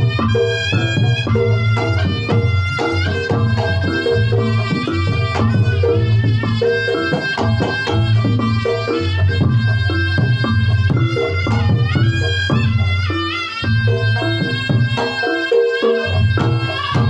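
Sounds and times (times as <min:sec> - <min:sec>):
gong-chime percussion: 0:00.0 - 0:17.0
hand drums: 0:00.0 - 0:17.0
reedy shawm melody: 0:00.0 - 0:17.0.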